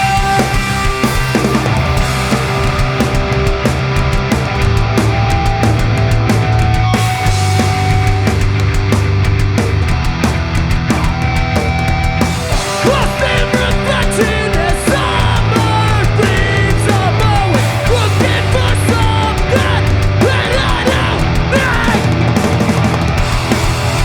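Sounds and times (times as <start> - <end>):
bass guitar: 0.0 - 24.0
distorted electric guitars: 0.0 - 24.0
drums: 0.0 - 24.0.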